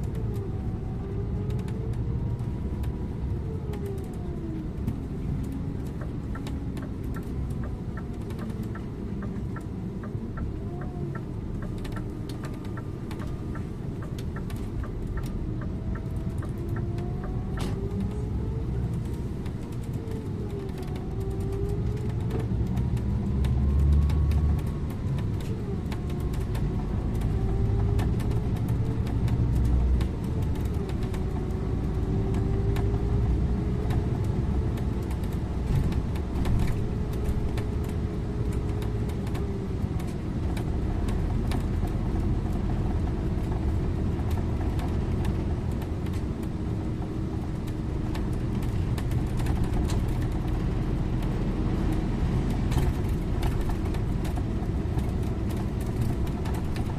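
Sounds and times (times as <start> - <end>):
bus engine rumbling: 0.0 - 56.9.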